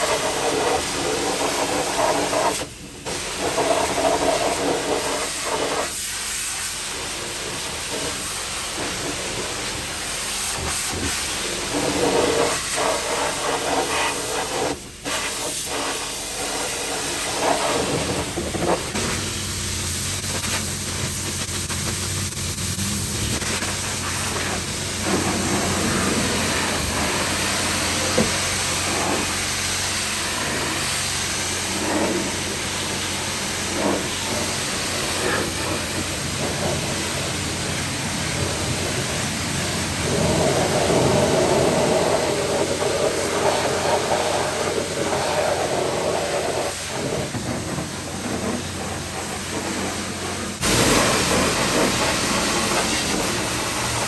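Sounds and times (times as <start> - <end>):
steady hissing noise: 0.0 - 54.0.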